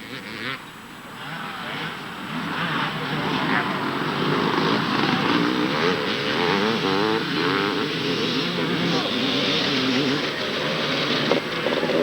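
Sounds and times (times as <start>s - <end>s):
motocross bikes revving: 1.2s - 12.0s.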